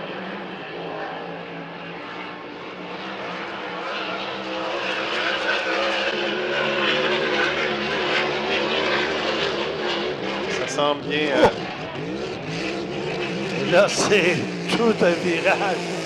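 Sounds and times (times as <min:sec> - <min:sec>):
racing boat engine: 0:00.0 - 0:16.0.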